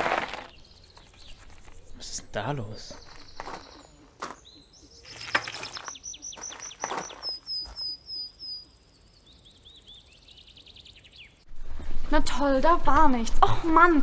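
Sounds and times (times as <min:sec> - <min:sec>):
songbird chirping: 0:00.2 - 0:11.5.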